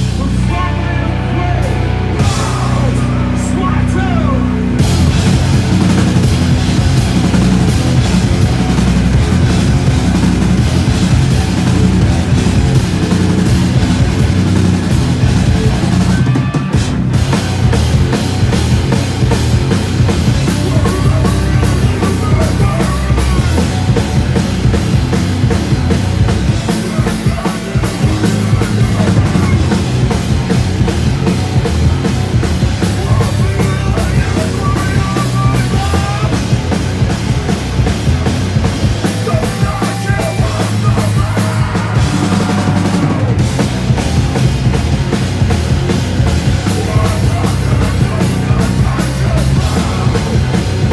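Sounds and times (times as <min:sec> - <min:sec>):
drum kit: 0:00.0 - 0:50.9
live punk rock band: 0:00.0 - 0:50.9.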